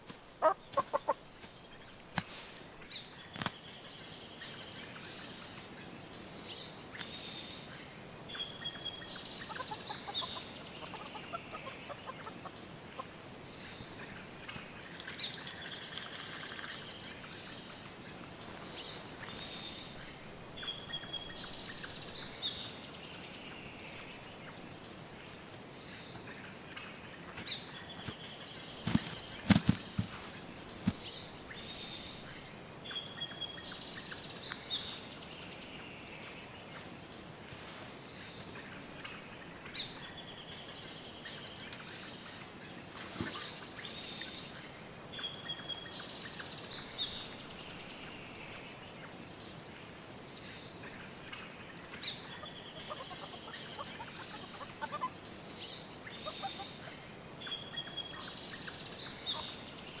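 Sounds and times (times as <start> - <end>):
background hiss: 0.0 - 60.0
songbirds chirping: 0.0 - 60.0.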